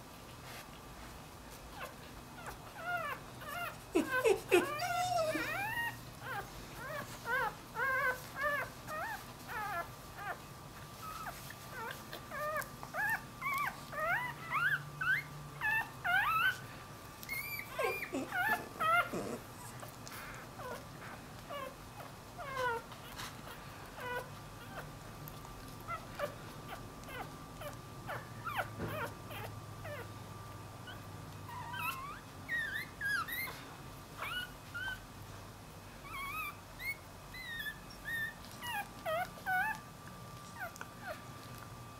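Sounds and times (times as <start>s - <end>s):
puppy squeaking and whimpering: 1.7s - 30.2s, 30.8s - 35.1s, 36.0s - 41.4s.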